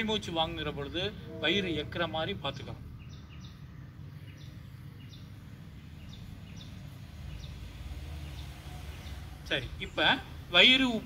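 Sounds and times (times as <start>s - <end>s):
small bird chirping: 0.0s - 10.7s.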